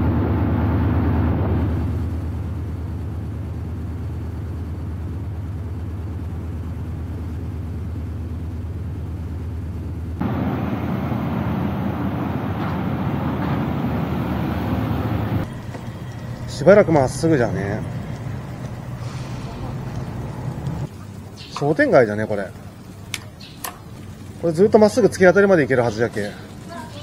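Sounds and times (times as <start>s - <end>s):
wind and road noise rumble: 0.0s - 27.0s.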